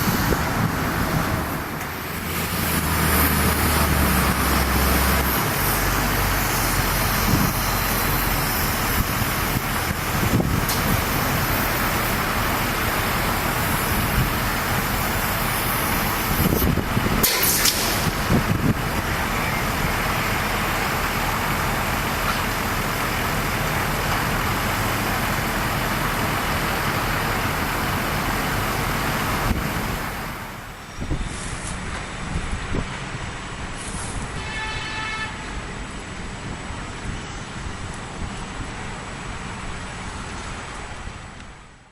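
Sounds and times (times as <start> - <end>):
rail machinery running: 0.0 - 41.9.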